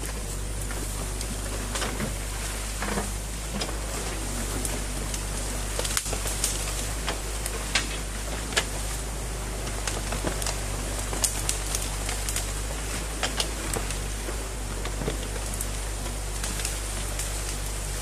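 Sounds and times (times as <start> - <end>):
diesel engine running: 0.0 - 18.0
sticks and branches snapping: 0.0 - 18.0.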